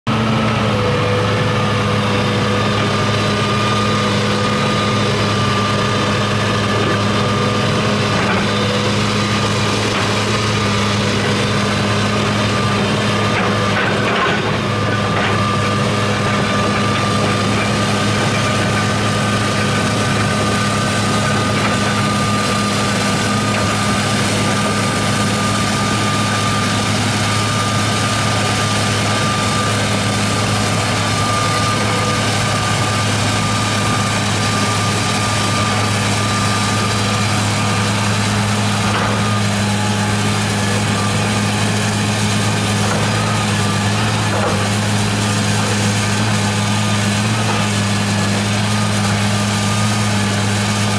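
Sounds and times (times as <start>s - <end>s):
excavator diesel engine hum: 0.0s - 50.9s
thin steady whine: 0.2s - 50.9s.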